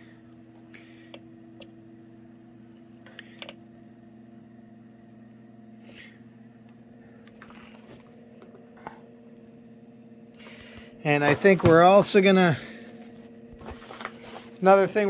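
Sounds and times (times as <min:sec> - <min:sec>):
grill fan humming: 0:00.0 - 0:15.0.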